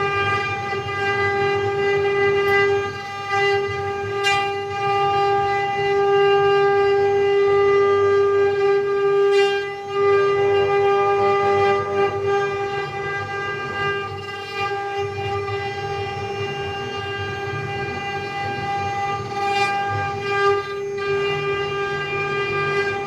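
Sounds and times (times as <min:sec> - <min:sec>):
spindle motor whining: 0:00.0 - 0:23.0.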